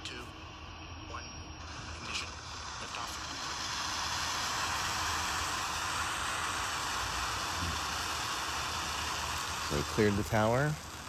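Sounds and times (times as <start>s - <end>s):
rocket engines roaring: 0.0s - 11.0s.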